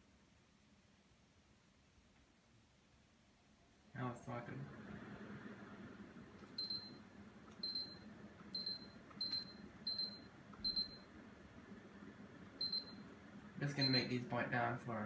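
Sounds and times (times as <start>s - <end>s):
air conditioner fan hiss: 0.0s - 15.0s.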